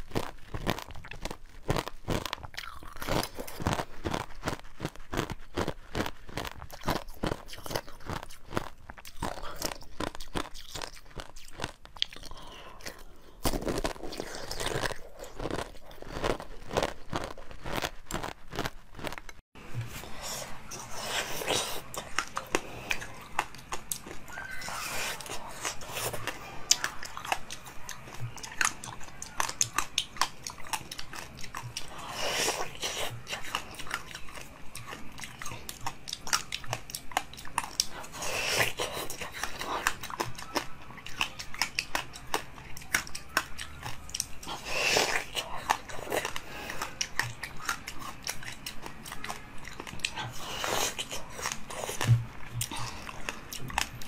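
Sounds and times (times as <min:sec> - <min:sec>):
crunchy chewing of frozen fruit: 0:00.0 - 0:54.0.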